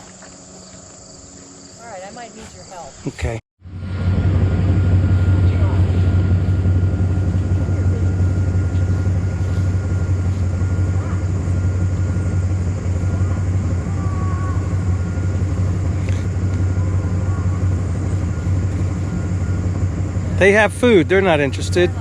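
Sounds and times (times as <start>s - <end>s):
truck engine idling low: 3.2s - 22.0s.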